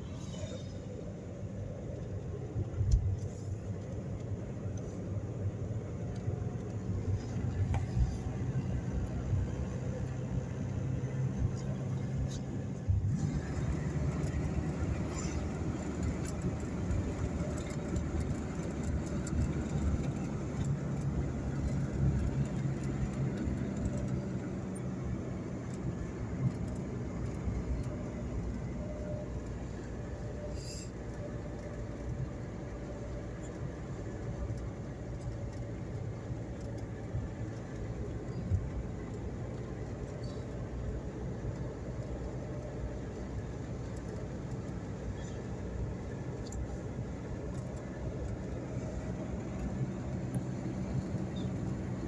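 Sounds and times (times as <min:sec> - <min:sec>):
vehicle running low rumble: 0:00.0 - 0:52.0.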